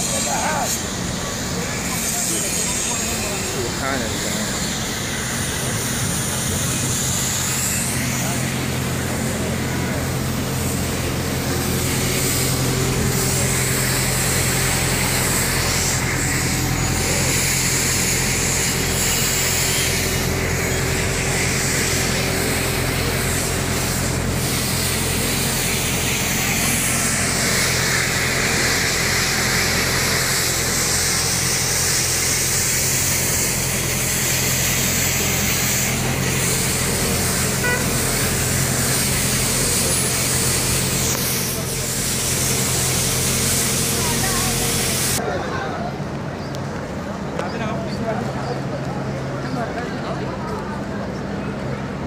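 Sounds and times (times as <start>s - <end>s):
street traffic rumble: 0.0s - 52.0s.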